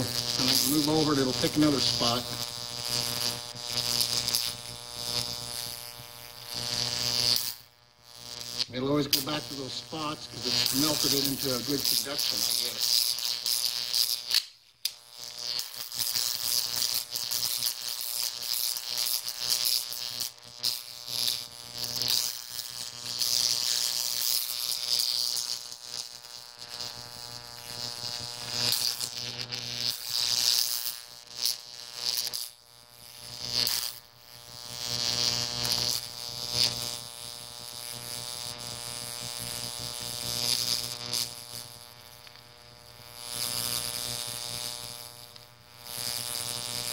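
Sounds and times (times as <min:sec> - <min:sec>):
electric arc buzzing and crackling: 0:00.0 - 0:46.9.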